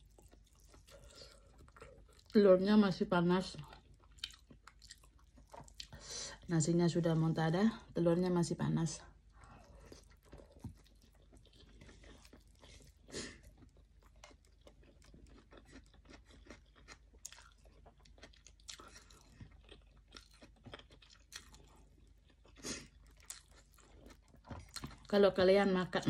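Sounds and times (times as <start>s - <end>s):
faint chewing: 0.0s - 2.4s, 3.4s - 6.5s, 9.1s - 25.5s.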